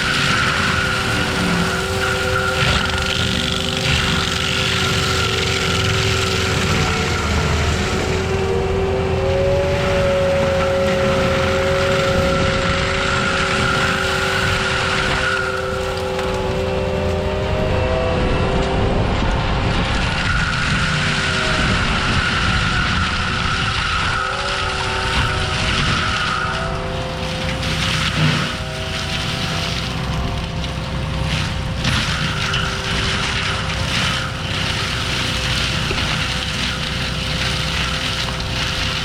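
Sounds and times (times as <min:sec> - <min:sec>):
forestry mulcher whining: 0:00.0 - 0:39.0.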